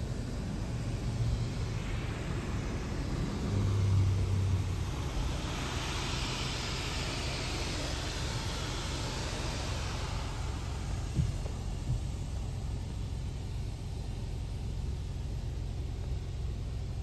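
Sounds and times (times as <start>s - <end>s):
broad hiss: 0.0s - 17.0s
car wash machinery hum: 0.0s - 17.0s.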